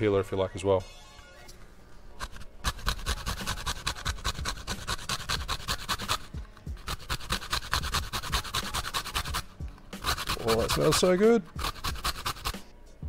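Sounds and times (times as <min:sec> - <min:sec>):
rind grated on metal grater: 0:02.2 - 0:12.6.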